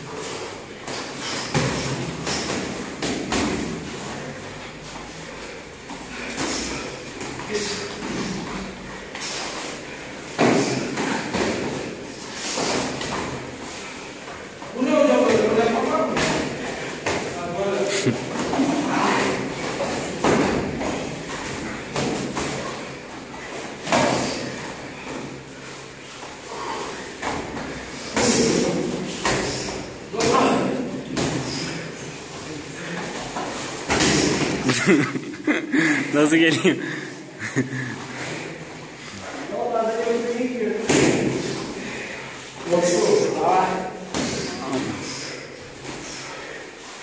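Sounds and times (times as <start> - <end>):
echoing gym hubbub: 0.0 - 47.0.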